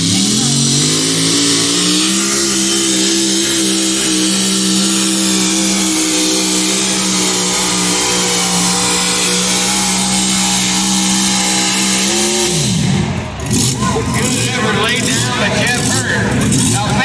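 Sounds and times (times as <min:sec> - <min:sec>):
engine at full throttle: 0:00.0 - 0:17.0.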